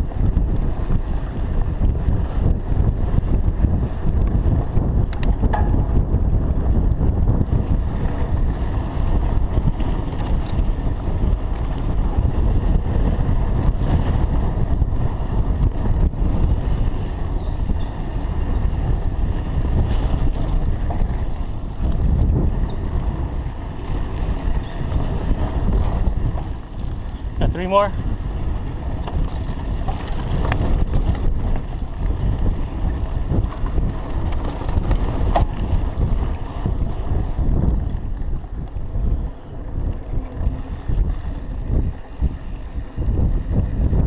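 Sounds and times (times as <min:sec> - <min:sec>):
sharp bike clicks: 0:00.0 - 0:44.0
tyres rumbling over dirt: 0:00.0 - 0:44.0
wind buffeting microphone: 0:00.0 - 0:44.0.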